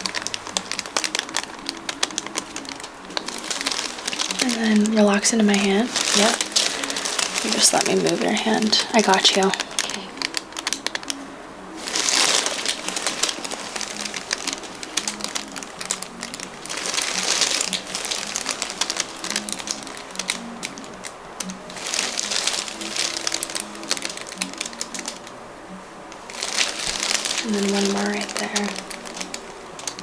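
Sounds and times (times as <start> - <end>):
hands rustling on skin: 0.0 - 30.0
soft background music: 0.0 - 30.0.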